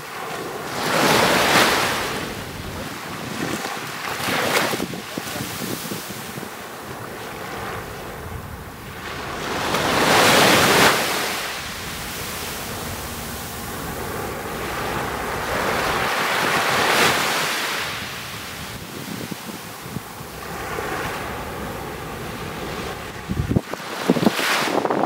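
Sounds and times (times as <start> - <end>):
waves breaking on a sandy beach: 0.0 - 25.0.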